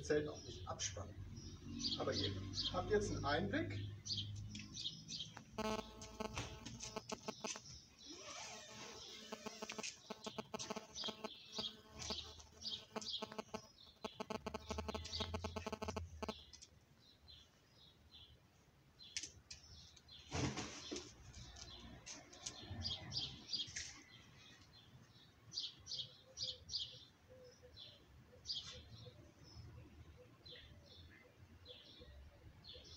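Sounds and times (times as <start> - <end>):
small birds chirping: 0.0 - 18.4, 19.0 - 32.9.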